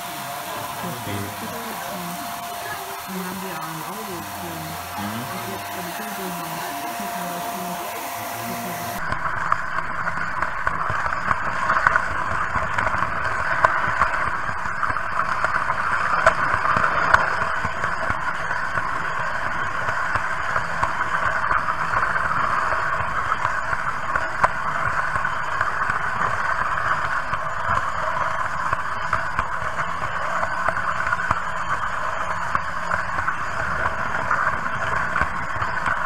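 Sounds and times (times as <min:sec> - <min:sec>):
model train running noise: 0:00.0 - 0:36.0.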